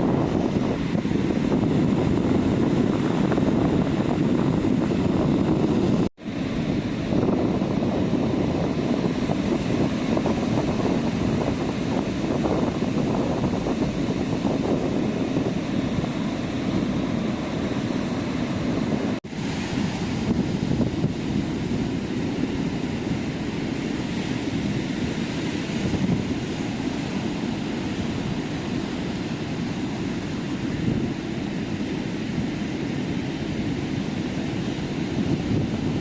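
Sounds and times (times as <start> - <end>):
sea surf washing onto beach: 0.0 - 36.0.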